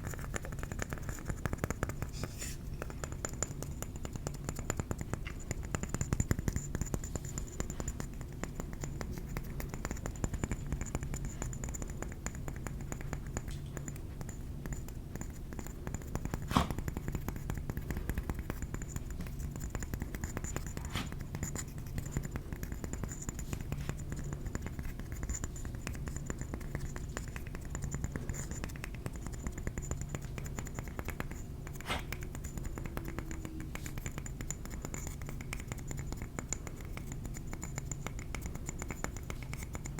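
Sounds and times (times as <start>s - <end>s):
fingers tapping ceramic plate: 0.0s - 2.1s, 2.8s - 39.9s.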